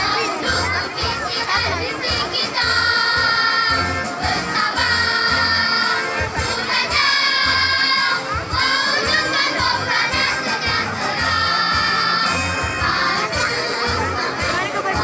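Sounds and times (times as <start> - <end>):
choir singing held notes: 0.0 - 15.0
instrumental accompaniment: 0.0 - 15.0.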